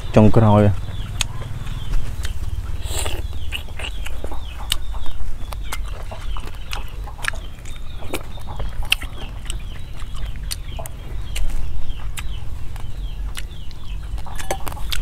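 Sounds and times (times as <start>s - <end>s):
chickens peeping: 0.0s - 15.0s
low rumble: 0.0s - 15.0s
wet chewing and lip-smacking: 1.0s - 15.0s.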